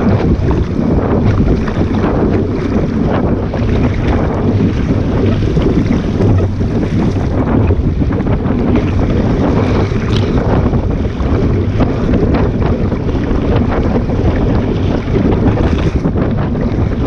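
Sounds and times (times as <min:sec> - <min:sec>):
water splashing against hull: 0:00.0 - 0:17.0
wind buffeting microphone: 0:00.0 - 0:17.0.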